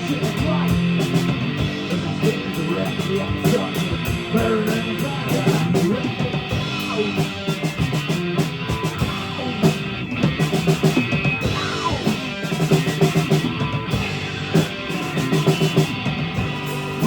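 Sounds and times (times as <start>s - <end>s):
drum kit beat: 0.0s - 17.0s
electric guitar: 0.0s - 17.0s.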